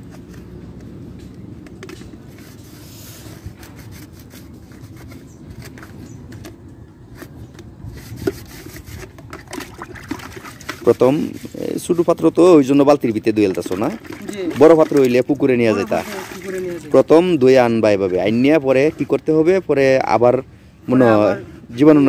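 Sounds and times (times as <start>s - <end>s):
scrubbing and scraping plastic: 0.0s - 19.6s.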